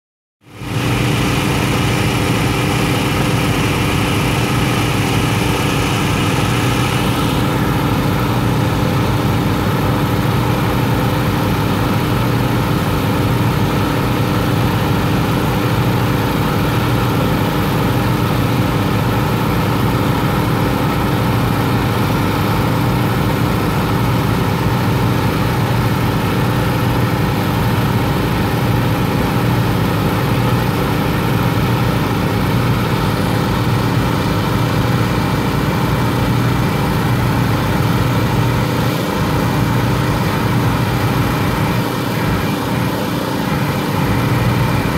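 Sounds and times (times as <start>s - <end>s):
small gasoline engine running: 0.5s - 44.9s.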